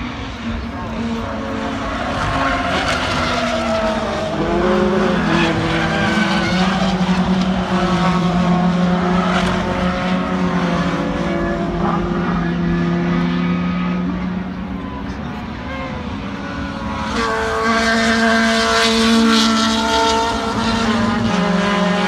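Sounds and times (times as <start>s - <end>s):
racing car engines: 0.0s - 22.0s.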